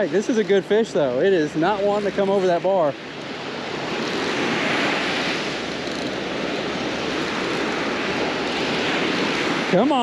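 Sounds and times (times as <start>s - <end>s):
surf breaking on a beach: 0.0s - 10.0s.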